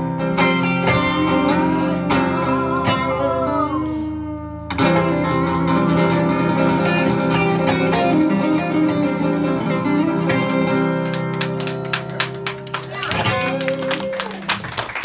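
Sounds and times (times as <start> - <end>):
acoustic guitar: 0.0 - 14.7
electric guitar: 0.0 - 15.0.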